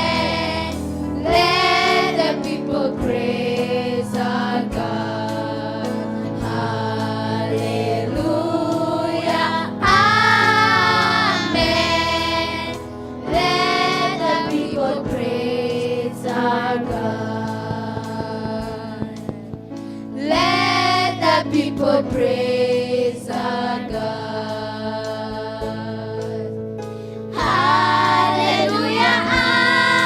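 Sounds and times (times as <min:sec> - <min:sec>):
choir singing gospel song: 0:00.0 - 0:30.0
instrumental backing: 0:00.0 - 0:30.0.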